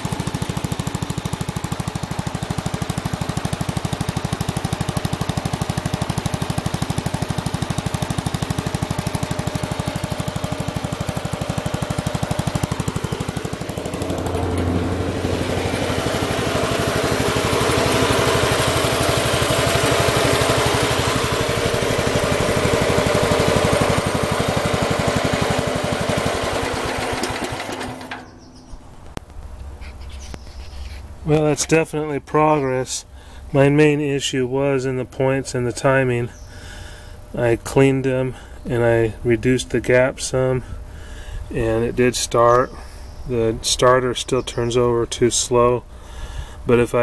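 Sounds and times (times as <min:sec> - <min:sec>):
garden tractor engine running: 0:00.0 - 0:47.0.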